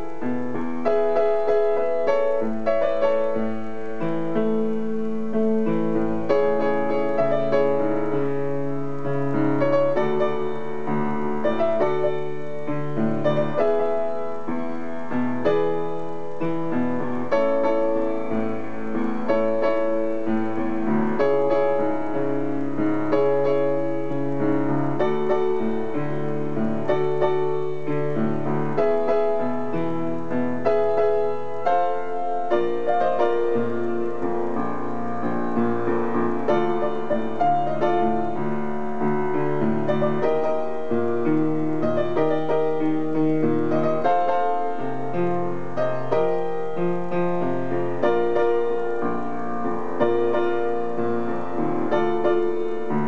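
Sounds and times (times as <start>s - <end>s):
solo piano playing: 0.0s - 53.0s.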